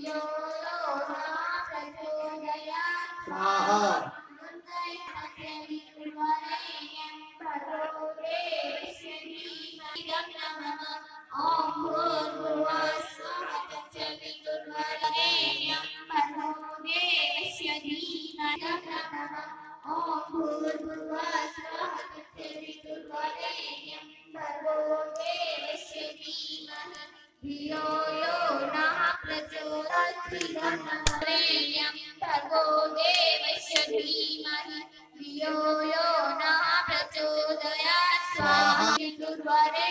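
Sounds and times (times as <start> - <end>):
high voice singing with vibrato: 0.0 - 8.8, 9.4 - 39.9.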